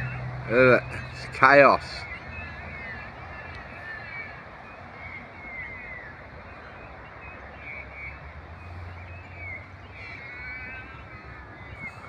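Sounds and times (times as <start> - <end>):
crows and magpies calling: 0.0 - 12.0.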